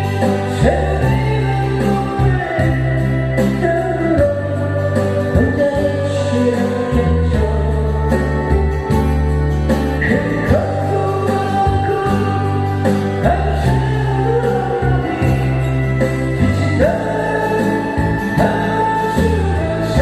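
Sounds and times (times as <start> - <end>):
instrumental accompaniment: 0.0 - 20.0
person singing a slow ballad: 0.0 - 20.0.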